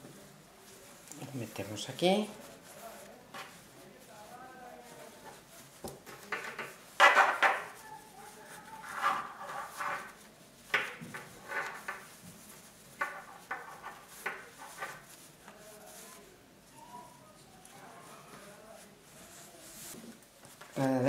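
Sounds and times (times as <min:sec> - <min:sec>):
cloth rustling and rubbing: 0:00.0 - 0:21.0.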